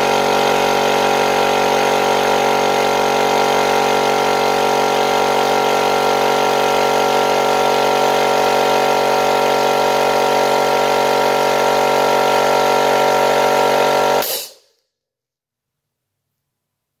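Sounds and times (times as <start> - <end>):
air compressor running: 0.0 - 14.6.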